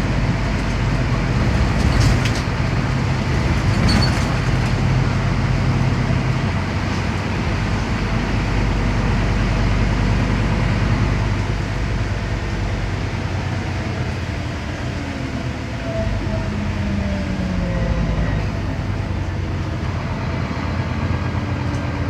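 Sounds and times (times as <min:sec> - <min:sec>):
bus diesel engine running: 0:00.0 - 0:22.0
tyre hum and road noise: 0:00.0 - 0:22.0.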